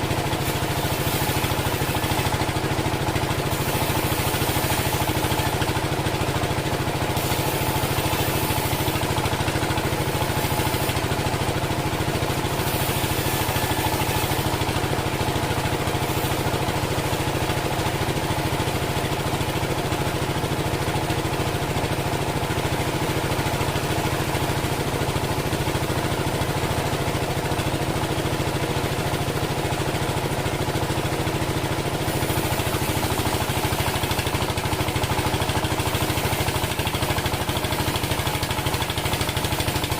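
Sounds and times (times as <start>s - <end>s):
band sawmill engine running: 0.0s - 39.9s.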